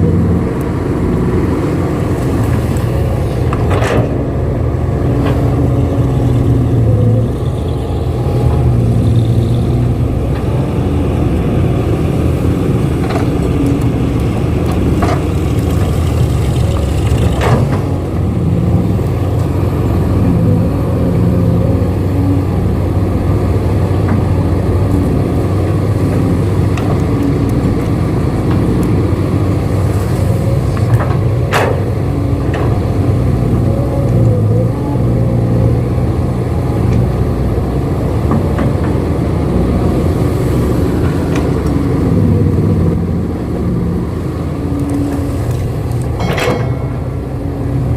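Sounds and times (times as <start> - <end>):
excavator engine droning: 0.0 - 47.9.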